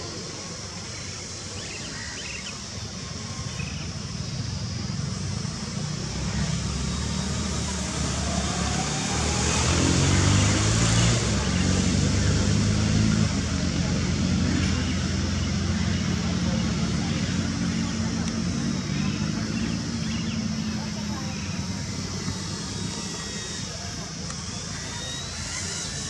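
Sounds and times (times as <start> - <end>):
outdoor rumble and hiss: 0.0 - 26.0.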